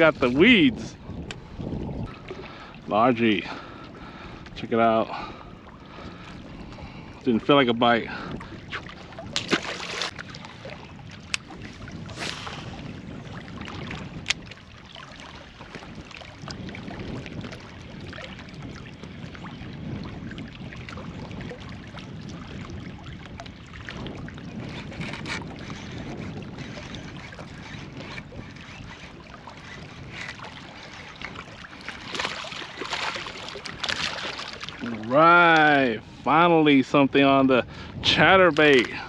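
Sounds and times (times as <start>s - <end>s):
small waves lapping rocks: 0.0s - 36.4s, 37.8s - 39.0s
wind buffeting microphone: 0.0s - 39.0s.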